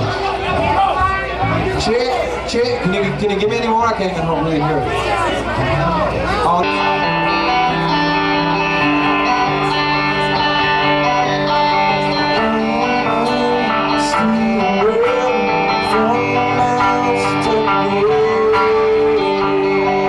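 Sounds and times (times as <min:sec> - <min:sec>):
amplified guitars ringing chords: 0:00.0 - 0:20.0.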